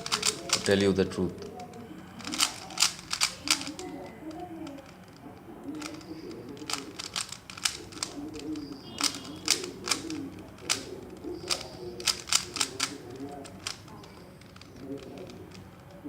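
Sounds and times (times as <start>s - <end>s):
puzzle cube clacking: 0.0s - 16.0s.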